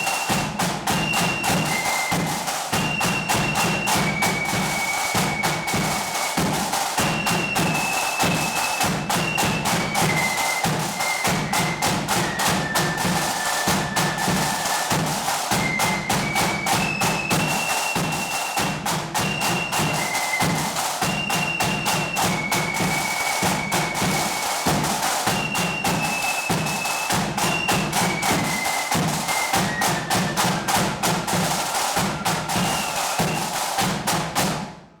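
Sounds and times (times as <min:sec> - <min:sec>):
flute melody: 0:00.0 - 0:33.9
snare drum rolls: 0:00.0 - 0:35.0.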